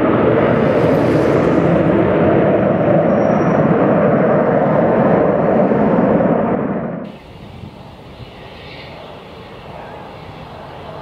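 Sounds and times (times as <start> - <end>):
jet aircraft flying overhead: 0.0 - 11.0.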